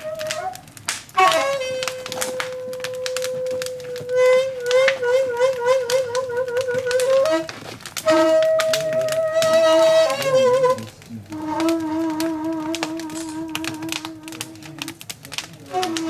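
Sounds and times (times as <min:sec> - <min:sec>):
bamboo flute melody: 0:00.0 - 0:16.0.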